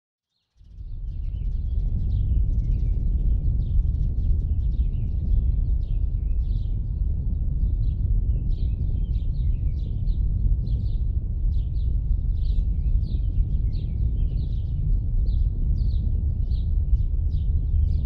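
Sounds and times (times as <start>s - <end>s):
small birds chirping: 0.3s - 18.0s
low outdoor rumble: 0.7s - 18.0s.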